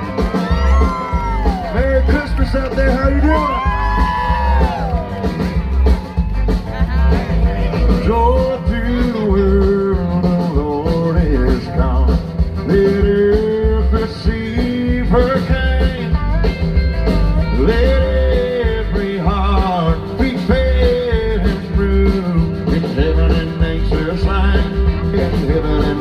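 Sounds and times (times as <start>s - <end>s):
bass: 0.0s - 26.0s
steady drum beat: 0.0s - 26.0s.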